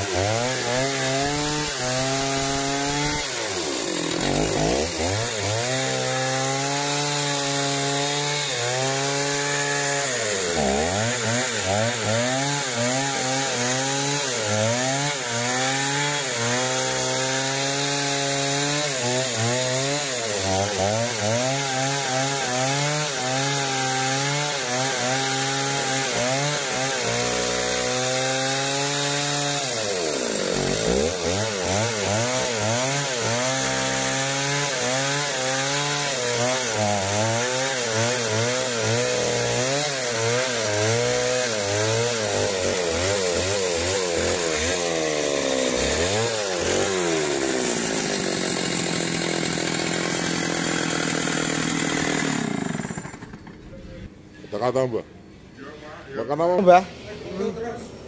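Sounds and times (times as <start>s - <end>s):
chainsaw cutting log: 0.0s - 53.7s.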